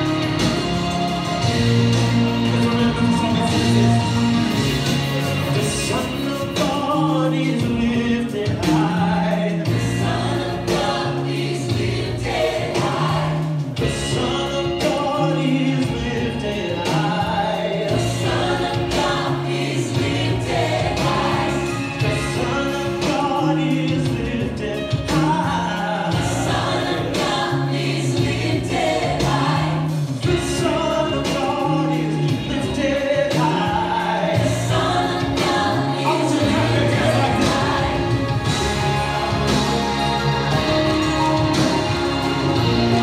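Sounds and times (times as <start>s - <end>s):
choir singing gospel: 0.0s - 43.0s.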